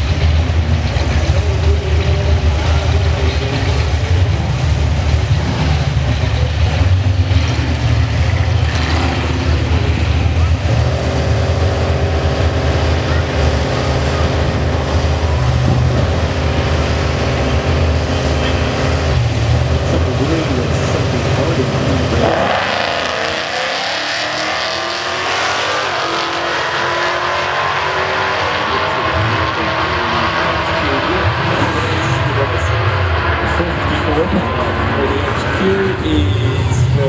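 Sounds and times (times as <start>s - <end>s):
car engines idling: 0.0s - 37.0s
cars accelerating hard: 0.0s - 37.0s.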